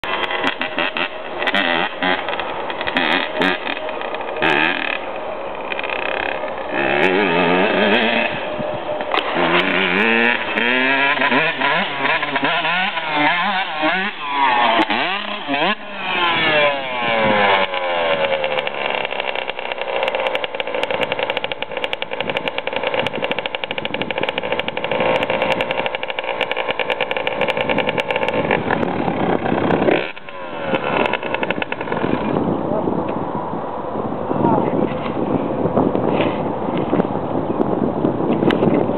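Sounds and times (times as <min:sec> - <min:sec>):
dirt bike engine revving: 0:00.0 - 0:32.6.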